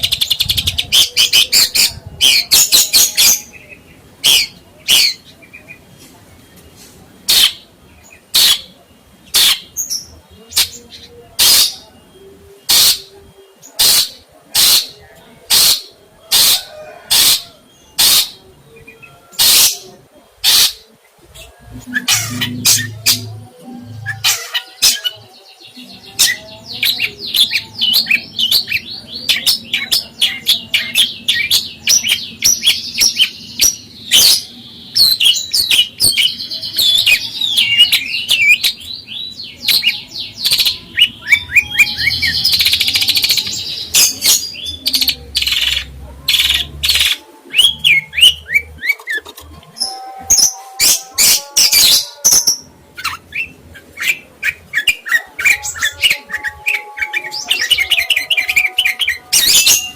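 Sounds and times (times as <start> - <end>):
songbird chattering song: 0.0 - 59.9.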